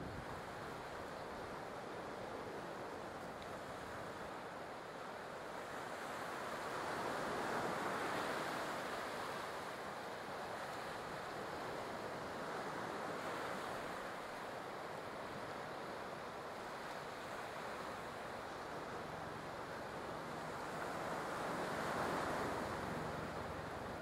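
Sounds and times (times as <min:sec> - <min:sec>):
ocean surf washing ashore: 0:00.0 - 0:24.0.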